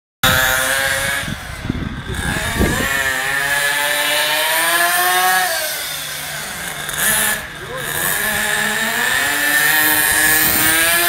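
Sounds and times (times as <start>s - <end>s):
toy car motor whining: 0.3s - 11.0s.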